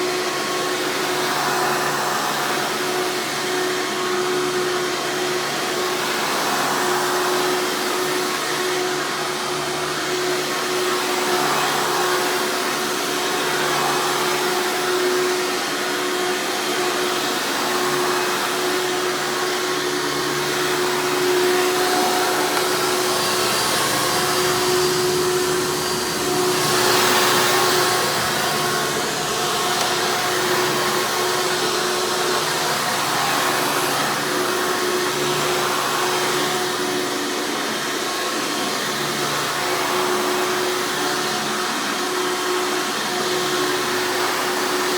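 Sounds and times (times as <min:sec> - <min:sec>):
upright vacuum cleaner running: 0:00.0 - 0:44.9.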